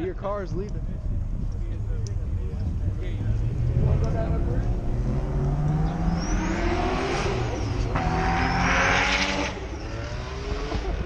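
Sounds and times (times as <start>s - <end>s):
high engine whine: 0.0s - 11.0s
car engine revving: 1.1s - 11.0s.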